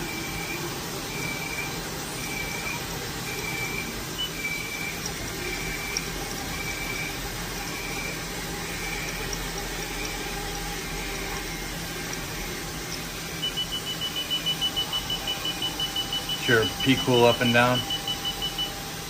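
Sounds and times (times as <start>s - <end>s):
faint pulsing high tone: 0.0s - 18.8s
coolant pump running: 0.0s - 19.0s
coolant spraying and splashing: 0.0s - 19.0s.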